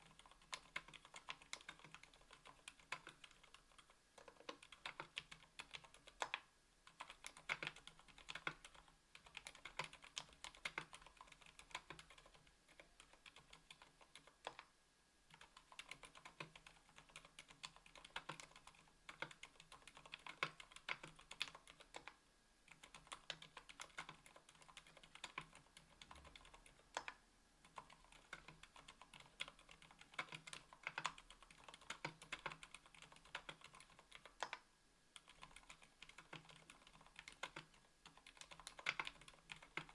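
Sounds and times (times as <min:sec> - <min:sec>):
quiet keyboard typing: 0:00.0 - 0:14.7, 0:15.3 - 0:39.9.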